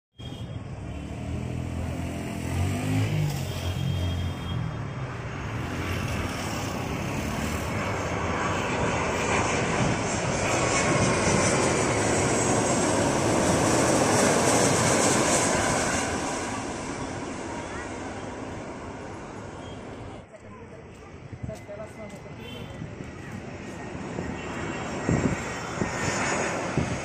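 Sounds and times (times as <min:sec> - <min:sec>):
high jet engine whine: 0:00.2 - 0:27.0
jet engines roaring: 0:00.6 - 0:27.0.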